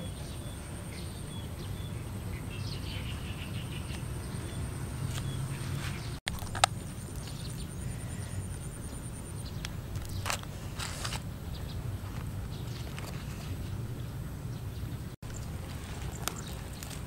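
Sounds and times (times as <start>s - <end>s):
small birds chirping: 0.0s - 6.2s, 6.8s - 10.6s, 11.3s - 17.0s.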